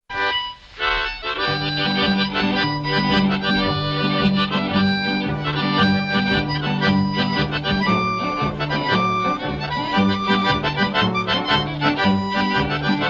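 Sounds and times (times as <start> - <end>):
harmonica melody: 0.1 - 13.0
alternating bass line: 1.7 - 13.0.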